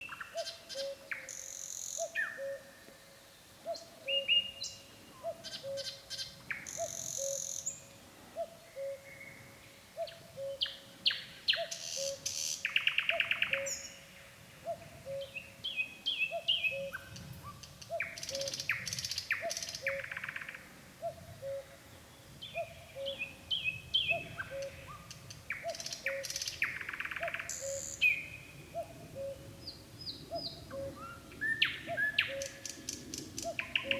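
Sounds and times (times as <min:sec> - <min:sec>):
nightingale singing: 0:00.0 - 0:02.7, 0:03.6 - 0:21.7, 0:22.4 - 0:33.9.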